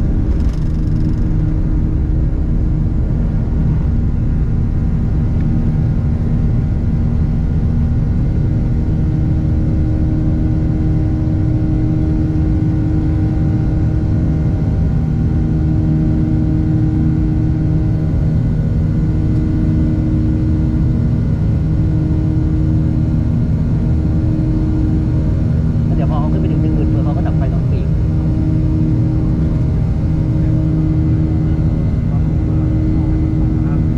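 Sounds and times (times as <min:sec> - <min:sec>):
jet engines rumbling in cabin: 0:00.0 - 0:33.9
steady low hum: 0:00.0 - 0:33.9.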